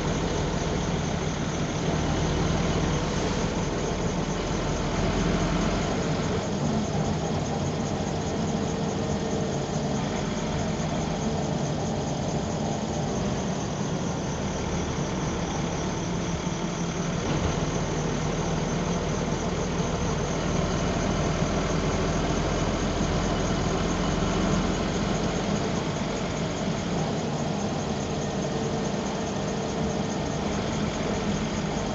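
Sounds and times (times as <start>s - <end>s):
bus diesel engine hum: 0.0s - 31.9s.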